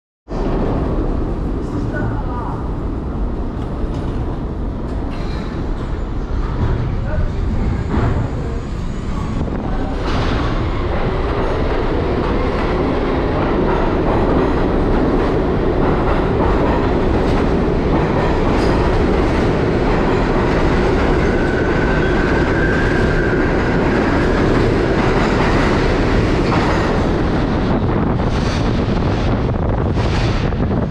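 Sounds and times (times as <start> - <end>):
subway train running noise: 0.3 - 30.9.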